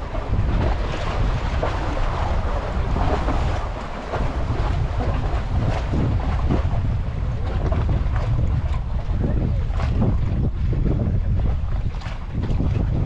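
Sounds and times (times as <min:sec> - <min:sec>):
waves splashing against rocks: 0:00.0 - 0:13.0
wind buffeting microphone: 0:00.0 - 0:13.0.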